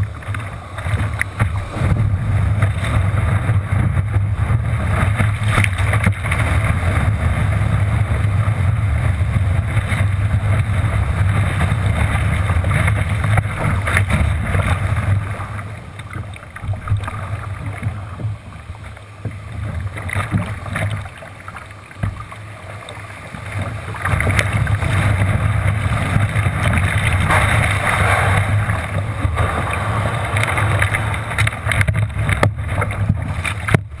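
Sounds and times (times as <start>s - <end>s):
whitewater and surf rushing: 0.0s - 34.0s
wind rumble on microphone: 0.0s - 34.0s.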